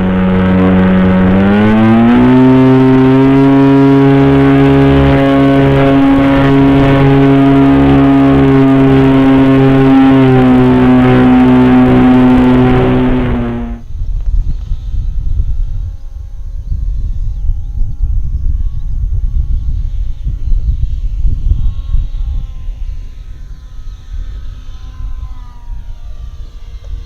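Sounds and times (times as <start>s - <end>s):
propeller motor droning buzz: 0.0s - 14.9s, 17.5s - 27.0s.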